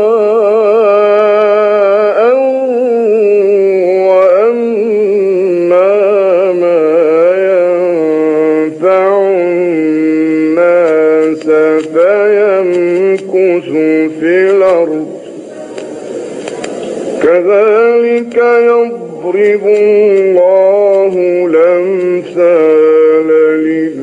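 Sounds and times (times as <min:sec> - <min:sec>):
man chanting melodically: 0:00.0 - 0:16.3, 0:17.0 - 0:24.0.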